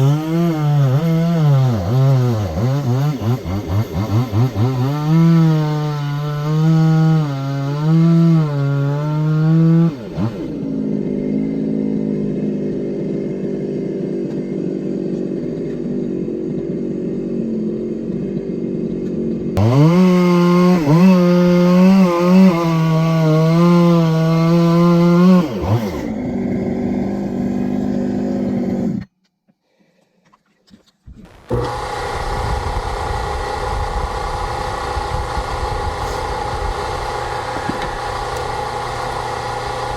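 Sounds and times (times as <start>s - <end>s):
steady motor sound: 0.0s - 29.1s, 31.2s - 39.9s
chainsaw cutting firewood: 0.0s - 29.2s, 31.1s - 39.9s.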